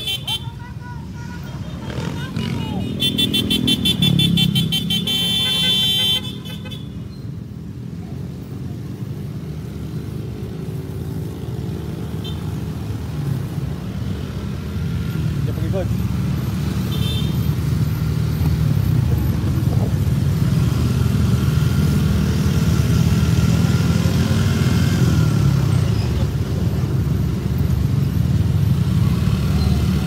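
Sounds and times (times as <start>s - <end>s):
motorcycle engines rumbling: 0.0s - 30.0s
road noise: 0.0s - 30.0s.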